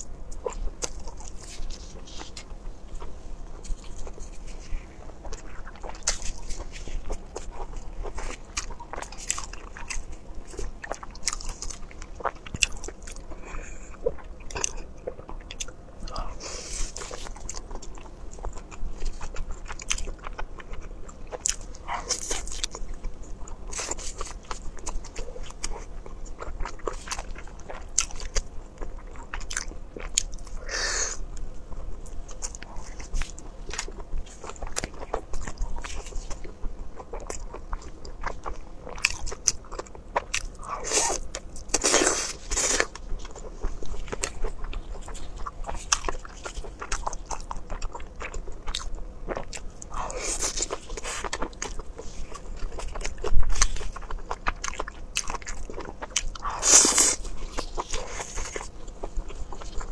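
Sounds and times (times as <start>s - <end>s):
wet chewing and crunching: 0.0s - 59.9s.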